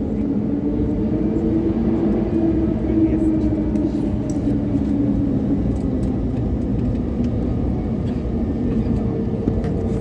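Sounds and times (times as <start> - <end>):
airliner engine rumble: 0.0 - 10.0.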